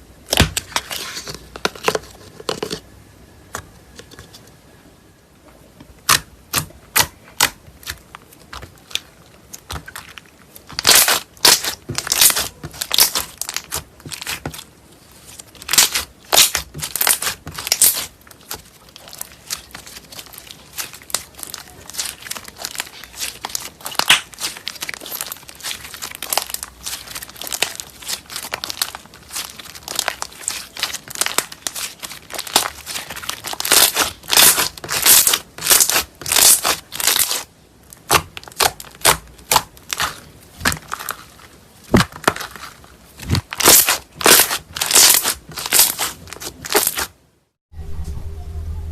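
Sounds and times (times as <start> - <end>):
slime popping and crackling: 6.0 - 47.2.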